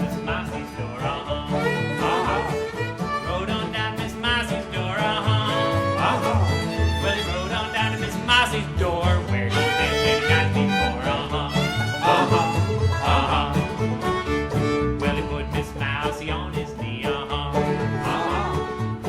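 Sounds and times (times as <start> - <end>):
fiddle: 0.0 - 19.0
guitar: 0.0 - 19.0.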